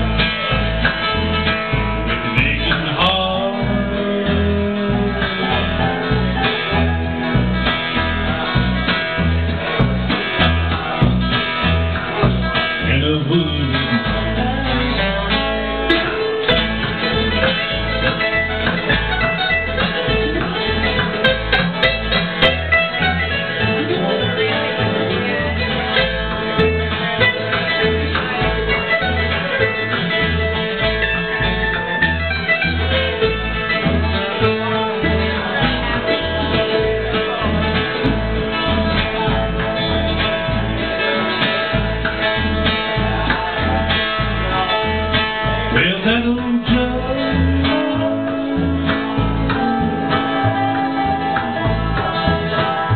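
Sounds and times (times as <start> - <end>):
acoustic guitar picking: 0.0 - 52.9
mandolin picking: 0.0 - 52.9
upright bass plucking: 0.0 - 52.9.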